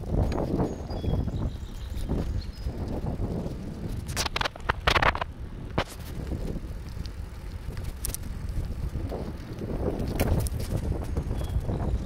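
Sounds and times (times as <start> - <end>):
bicycle rattling: 0.0 - 12.0
wind noise on microphone: 0.0 - 12.0.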